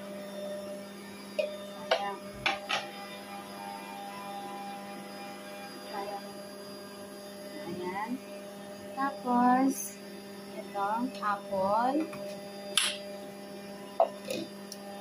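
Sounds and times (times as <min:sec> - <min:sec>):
juicer motor hum: 0:00.0 - 0:15.0.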